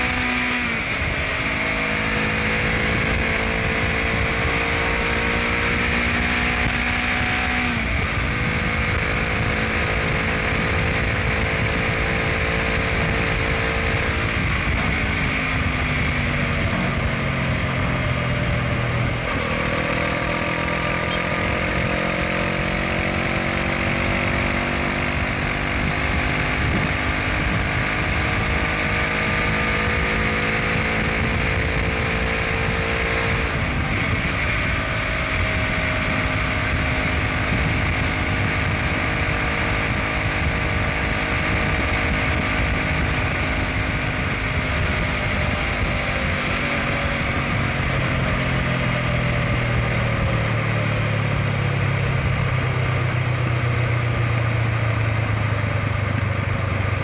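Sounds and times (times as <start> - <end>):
motorcycle engine running: 0.0 - 57.0
road noise: 0.0 - 57.0
wind noise: 0.0 - 57.0.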